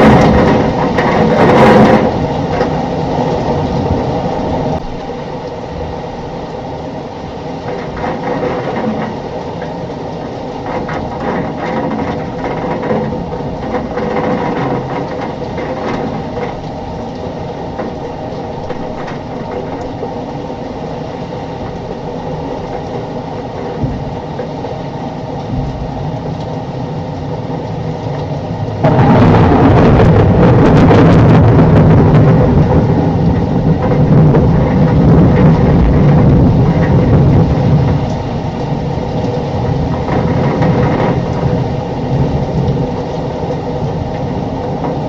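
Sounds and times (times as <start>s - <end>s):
low buffeting with crackling: 0.0s - 45.0s
wind and rain on microphone: 0.0s - 45.0s.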